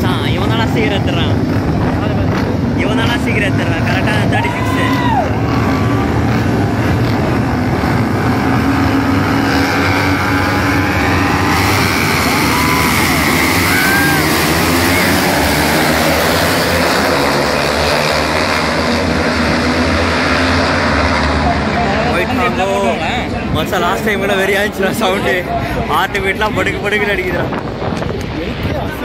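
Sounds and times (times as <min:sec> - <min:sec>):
racing motorcycles revving: 0:00.0 - 0:29.0.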